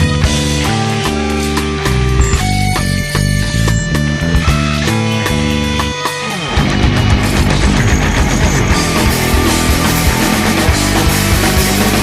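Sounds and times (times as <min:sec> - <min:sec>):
bass guitar: 0:00.0 - 0:12.0
distorted electric guitars: 0:00.0 - 0:12.0
drums: 0:00.0 - 0:12.0.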